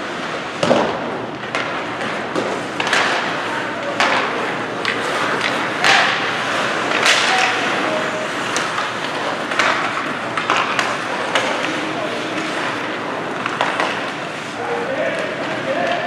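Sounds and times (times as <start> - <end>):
skates scraping ice: 0.0 - 16.0
sticks and puck clacking: 0.0 - 16.0.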